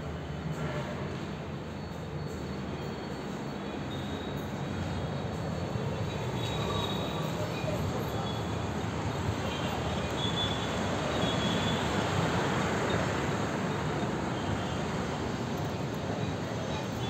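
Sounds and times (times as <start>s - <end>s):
city road traffic: 0.0s - 17.0s.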